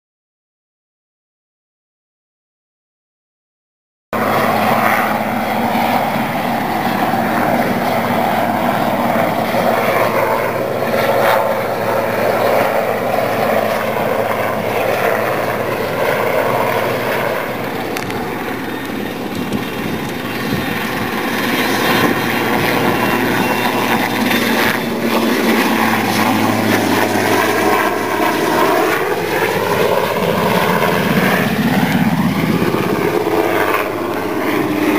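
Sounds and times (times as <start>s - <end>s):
helicopter flying past: 4.2s - 34.9s.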